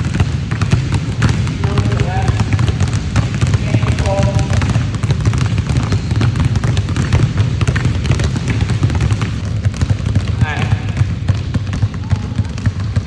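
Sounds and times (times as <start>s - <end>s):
basketballs bouncing on gym floor: 0.0s - 13.0s.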